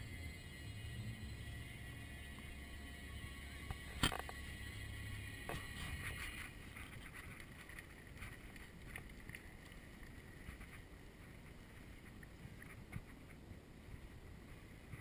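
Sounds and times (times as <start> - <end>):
low rumble: 0.0 - 12.7.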